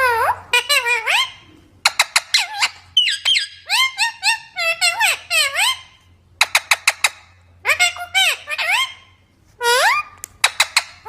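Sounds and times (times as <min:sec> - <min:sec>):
parrot calling: 0:00.0 - 0:11.0.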